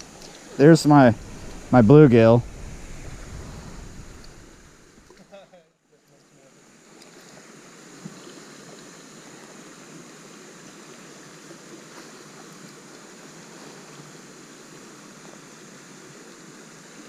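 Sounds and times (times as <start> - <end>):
creek water rushing: 0.0 - 5.4, 6.0 - 17.0.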